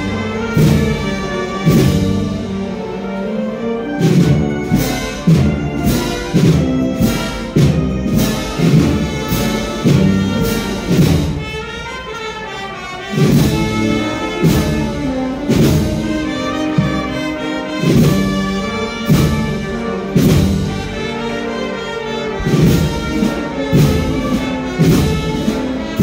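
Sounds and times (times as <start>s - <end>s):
steady drum beat: 0.0s - 3.1s, 4.0s - 12.0s, 13.1s - 21.6s, 22.2s - 26.0s
wind band playing a march: 0.0s - 26.0s.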